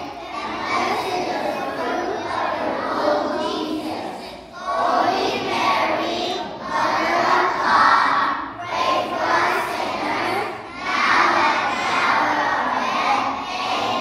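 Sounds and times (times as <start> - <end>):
children singing together: 0.0 - 14.0.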